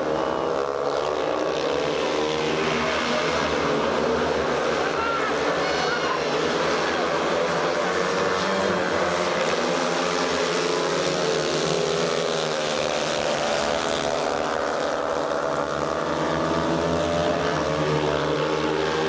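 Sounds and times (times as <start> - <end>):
motorcycle engines racing: 0.0 - 19.0.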